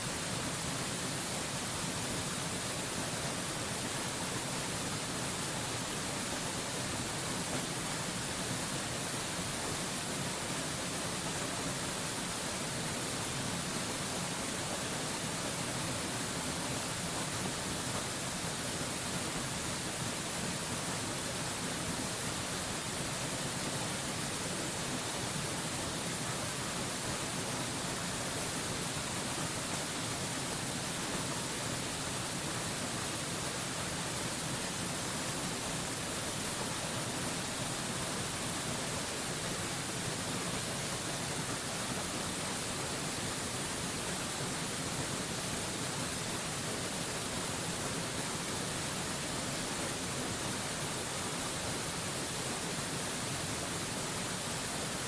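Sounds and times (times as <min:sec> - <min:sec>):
waterfall rushing water: 0:00.0 - 0:55.0.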